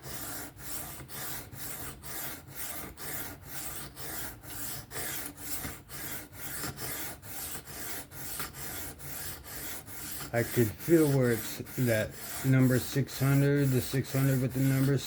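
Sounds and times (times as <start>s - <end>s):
knife rasping on sharpening stone: 0.0s - 15.0s.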